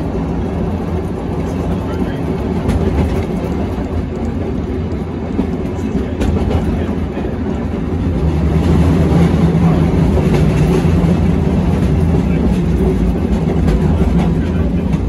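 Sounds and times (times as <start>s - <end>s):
streetcar wheels on rails: 0.0s - 15.0s.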